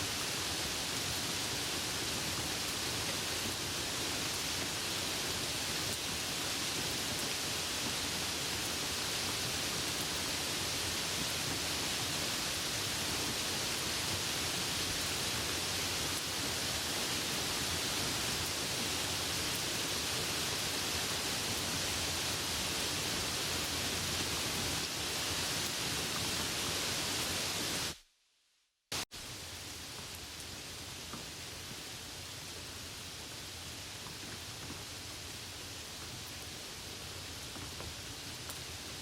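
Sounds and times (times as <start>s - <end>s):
rain falling: 0.0s - 28.0s, 28.9s - 39.0s.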